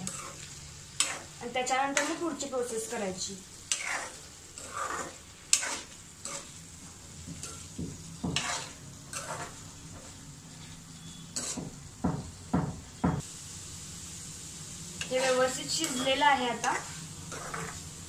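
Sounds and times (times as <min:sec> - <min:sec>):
metal spatula scraping a pan: 0:00.0 - 0:11.8, 0:15.0 - 0:18.0
vegetables sizzling: 0:00.0 - 0:18.0.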